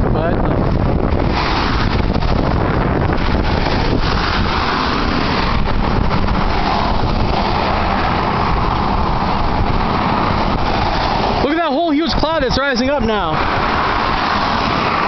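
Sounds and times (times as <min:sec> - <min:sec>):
storm wind buffeting microphone: 0:00.0 - 0:15.0.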